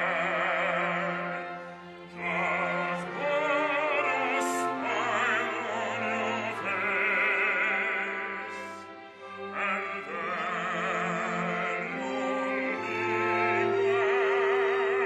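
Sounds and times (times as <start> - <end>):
operatic singing: 0.0 - 15.0.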